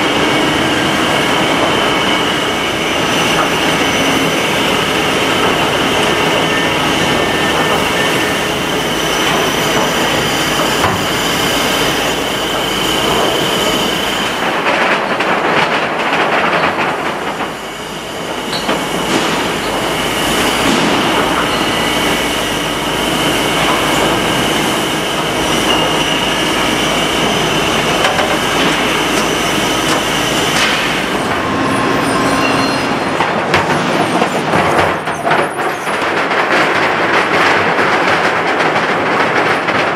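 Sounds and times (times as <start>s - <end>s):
shot-blasting machine clattering: 0.0s - 31.6s, 32.9s - 39.9s.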